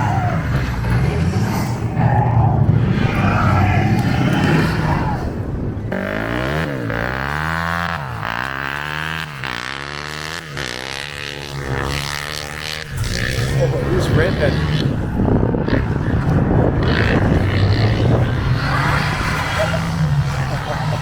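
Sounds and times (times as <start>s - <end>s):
engine revving down and up: 0.0s - 21.0s
vehicle engines running: 0.0s - 21.0s.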